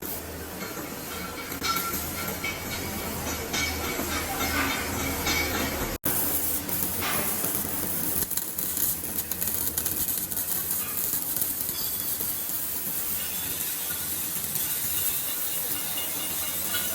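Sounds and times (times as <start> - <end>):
welding arc crackling and hissing: 0.0 - 5.1, 6.0 - 16.9.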